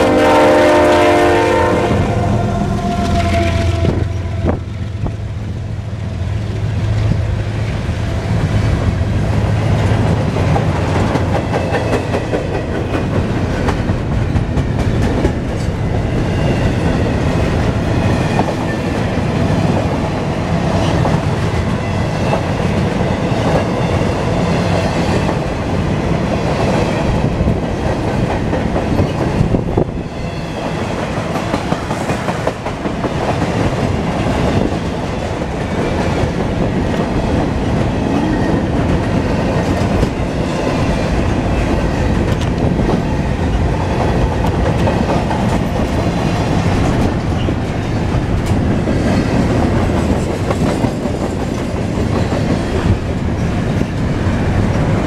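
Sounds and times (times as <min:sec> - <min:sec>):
steel wheels rumbling on rail: 0:00.0 - 0:55.0
clickety-clack over rail joints: 0:08.3 - 0:55.0.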